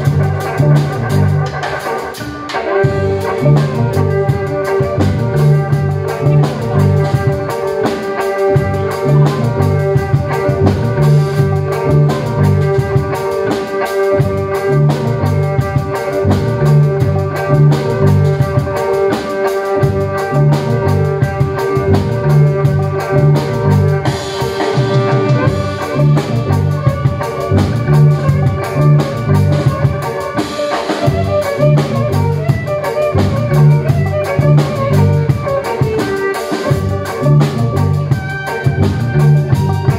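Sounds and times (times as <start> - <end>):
low bass figure: 0.0 - 1.5, 2.9 - 7.4, 8.5 - 13.0, 14.2 - 18.7, 19.8 - 24.2, 25.0 - 30.0, 31.1 - 39.9
busy drumming: 0.0 - 39.9
violin through effects: 0.0 - 39.9.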